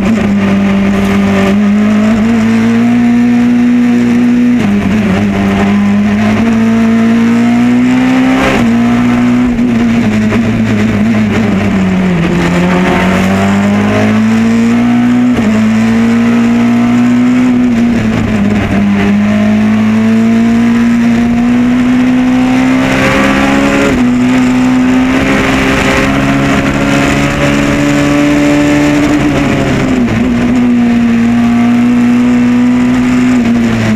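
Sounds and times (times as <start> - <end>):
car engine under hard throttle: 0.0 - 33.9.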